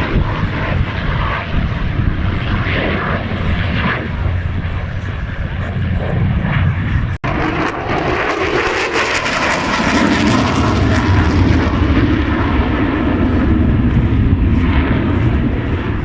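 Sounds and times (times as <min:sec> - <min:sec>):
aircraft engine noise: 0:00.0 - 0:16.0.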